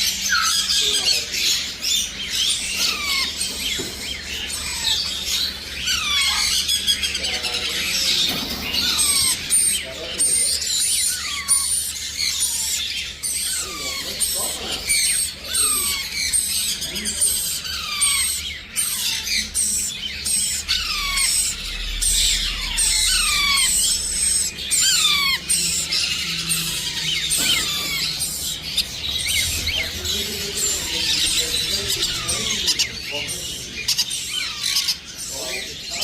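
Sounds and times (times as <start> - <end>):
parrots chirping and squawking: 0.0 - 36.0.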